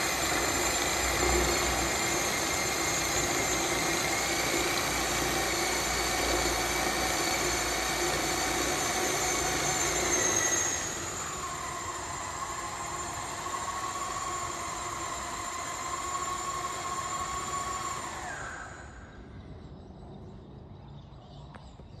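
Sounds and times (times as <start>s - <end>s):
remote-controlled tug drive whining: 0.0s - 19.3s.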